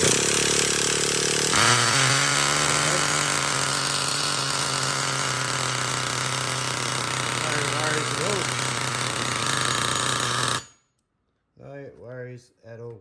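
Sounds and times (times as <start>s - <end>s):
nitro engine buzzing: 0.0s - 10.8s.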